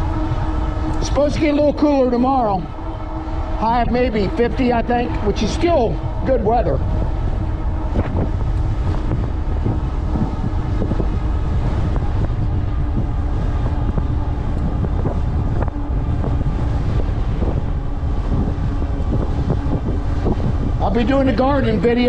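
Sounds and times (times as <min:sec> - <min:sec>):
faint steady hum: 0:00.0 - 0:22.0
wind buffeting microphone: 0:00.0 - 0:22.0.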